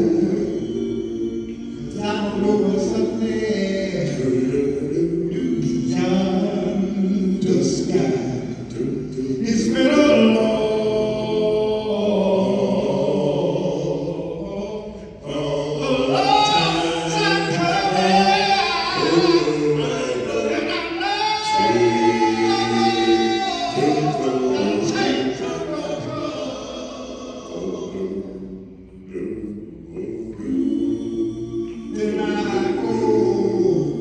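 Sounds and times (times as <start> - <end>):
male vocal group singing a cappella: 0.0 - 34.0.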